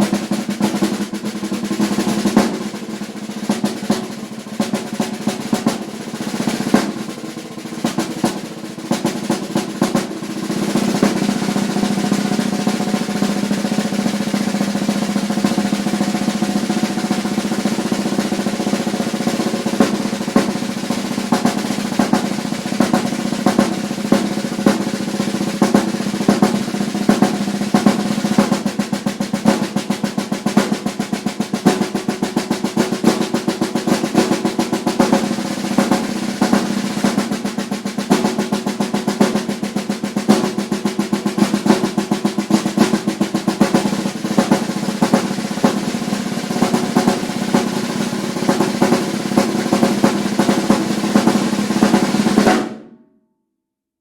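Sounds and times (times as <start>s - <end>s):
snare drum rolls: 0.0s - 53.0s.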